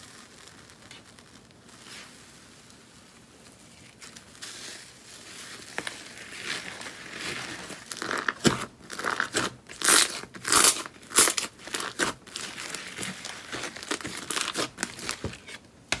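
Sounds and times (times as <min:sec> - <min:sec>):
slime crackling under hands: 0:00.0 - 0:15.5.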